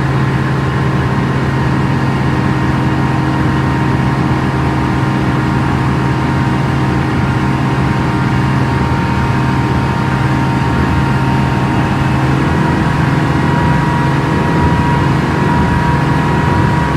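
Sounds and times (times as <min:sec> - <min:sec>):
outboard motor running: 0:00.0 - 0:16.9.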